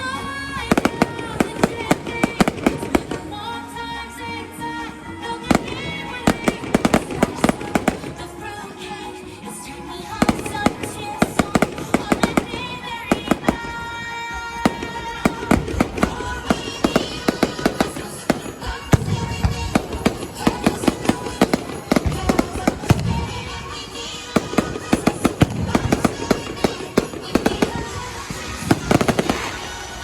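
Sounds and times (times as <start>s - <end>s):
fireworks bangs and crackles: 0.0s - 30.0s
music playing: 0.0s - 30.0s
fireworks booms: 0.6s - 3.6s, 5.4s - 8.6s, 10.1s - 30.0s.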